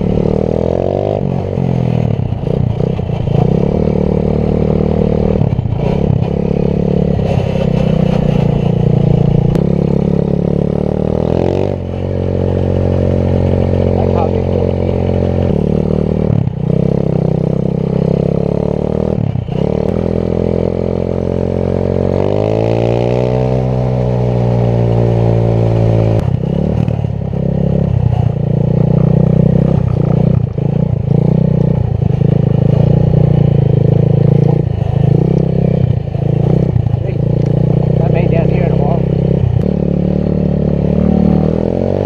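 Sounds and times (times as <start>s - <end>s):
quad engine revving: 0.0s - 42.0s.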